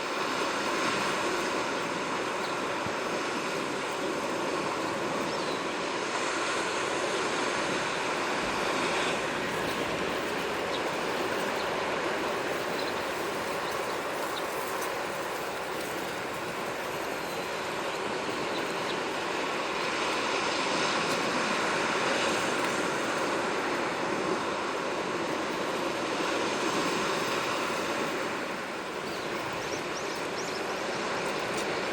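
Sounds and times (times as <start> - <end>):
sea waves washing on shore: 0.0 - 31.9.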